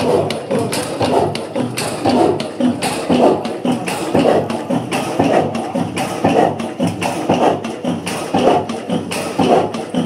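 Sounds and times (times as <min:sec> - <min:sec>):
diesel engine heavy beat: 0:00.0 - 0:10.0
valve gear clatter and ticking: 0:00.0 - 0:10.0.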